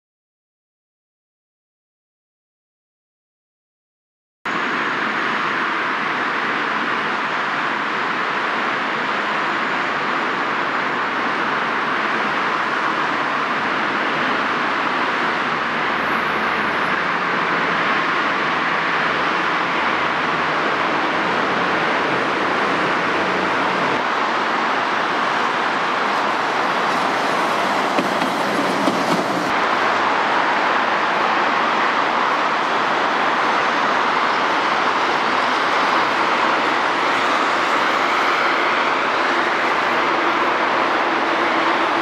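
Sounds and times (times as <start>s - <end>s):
heavy road traffic roar: 4.5s - 42.0s
tram running on rails: 4.5s - 42.0s.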